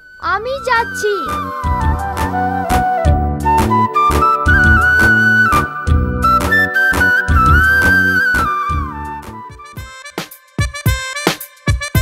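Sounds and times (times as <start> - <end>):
background music with drum beat: 1.3 - 12.0.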